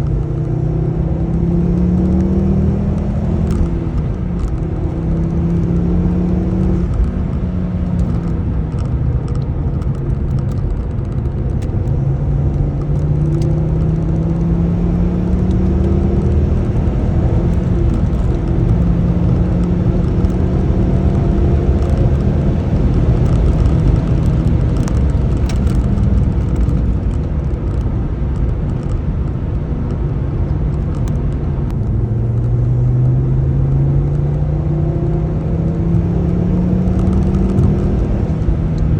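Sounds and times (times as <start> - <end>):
car engine under way: 0.0 - 38.9
road rumble: 0.0 - 38.9.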